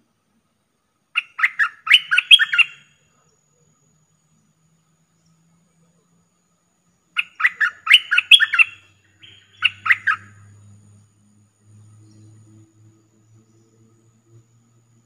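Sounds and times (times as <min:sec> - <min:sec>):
bird chirping: 0:01.1 - 0:15.0.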